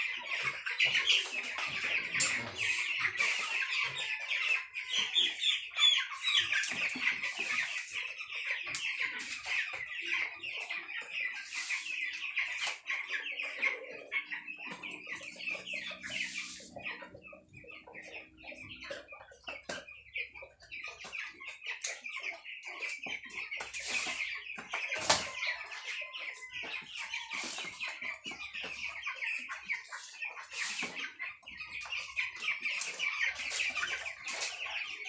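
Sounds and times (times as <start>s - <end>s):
chickens peeping and cheeping: 0.0s - 35.0s.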